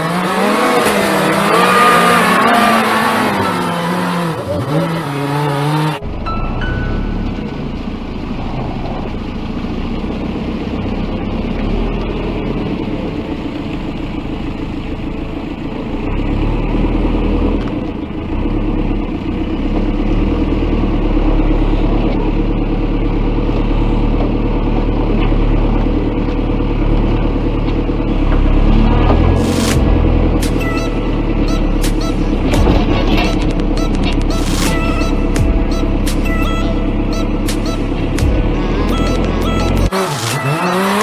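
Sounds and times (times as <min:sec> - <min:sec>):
backhoe diesel engine running: 0:00.1 - 0:41.0.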